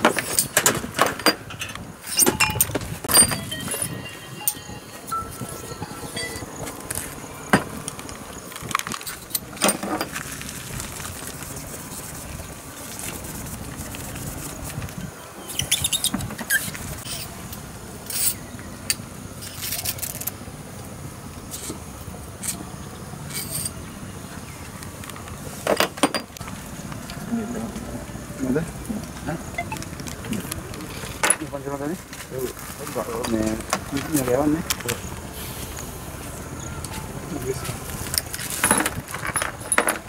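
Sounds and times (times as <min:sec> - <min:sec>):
outdoor background noise: 0:00.0 - 0:40.0.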